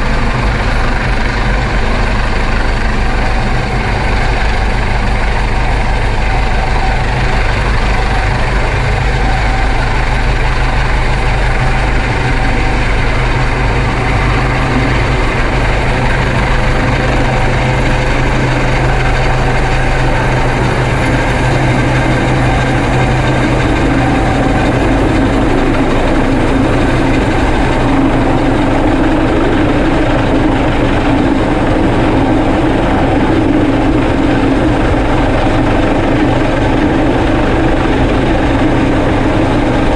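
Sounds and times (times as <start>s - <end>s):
boat engine hum: 0.0s - 39.9s
helicopter engine drone: 0.0s - 39.9s.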